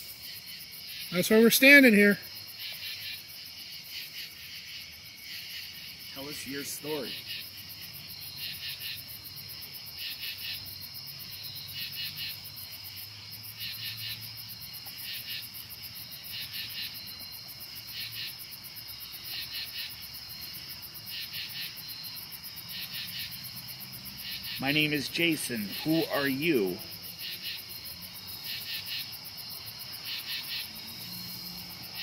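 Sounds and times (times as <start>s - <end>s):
high-pitched insect trill: 0.0s - 32.0s
insects rasping calls: 0.0s - 32.0s.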